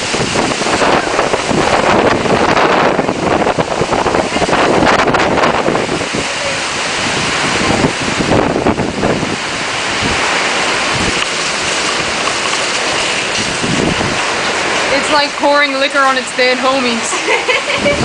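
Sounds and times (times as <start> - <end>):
water gushing from burst pipe: 0.0 - 15.6.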